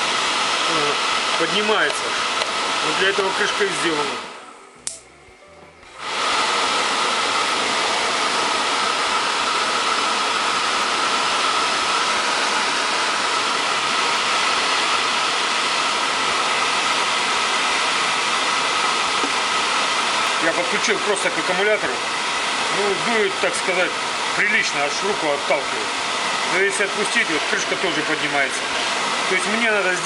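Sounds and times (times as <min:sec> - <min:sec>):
blower fan whining: 0:00.0 - 0:30.0.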